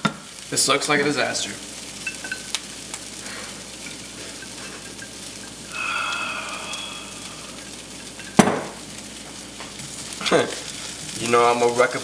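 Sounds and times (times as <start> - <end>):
pizza sizzling in a pan: 0.0 - 12.0.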